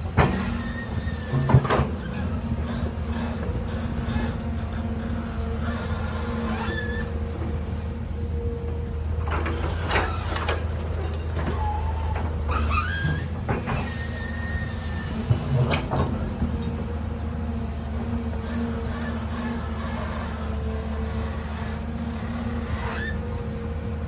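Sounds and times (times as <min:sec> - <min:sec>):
heavy machine engine humming: 0:00.0 - 0:24.0
metallic squeals and clanks: 0:00.1 - 0:16.9, 0:17.7 - 0:24.0.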